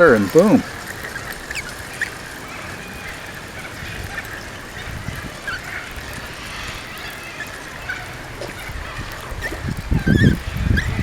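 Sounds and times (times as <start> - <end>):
faint bird chirps: 0.0 - 11.0
outdoor background noise: 0.0 - 11.0.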